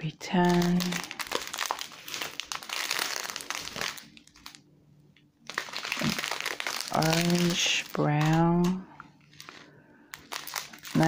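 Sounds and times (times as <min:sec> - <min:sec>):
plastic bags crinkling: 0:00.0 - 0:04.6, 0:05.4 - 0:11.0.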